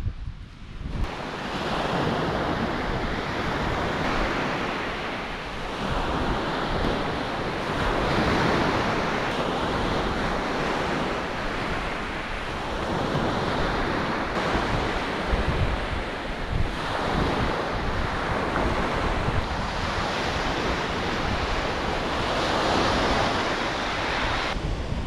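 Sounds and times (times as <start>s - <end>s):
wind buffeting the microphone: 0.0s - 25.0s
waves breaking on a beach: 0.4s - 25.0s.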